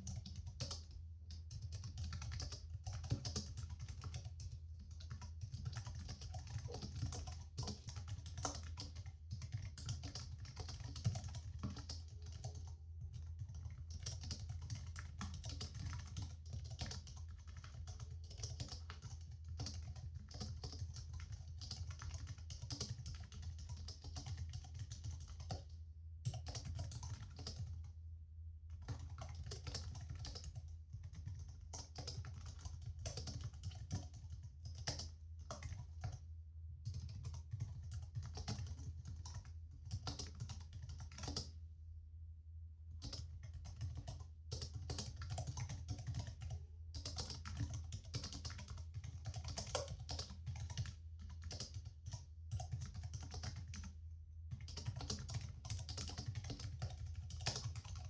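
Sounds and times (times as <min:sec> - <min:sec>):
computer keyboard typing: 0:00.0 - 0:25.7, 0:26.3 - 0:27.8, 0:28.8 - 0:36.2, 0:36.9 - 0:41.5, 0:43.0 - 0:53.9, 0:54.5 - 0:58.0.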